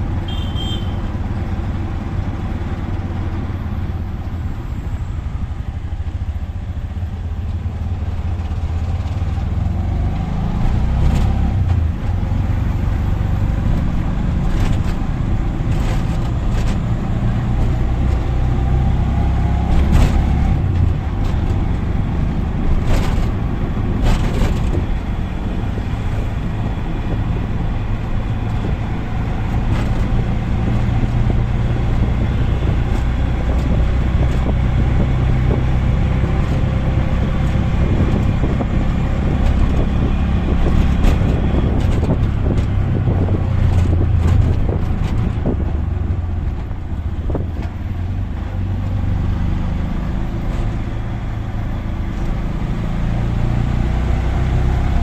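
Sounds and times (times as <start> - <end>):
auto rickshaw engine running: 0.0 - 55.0
road noise: 0.0 - 55.0
traffic: 0.0 - 55.0.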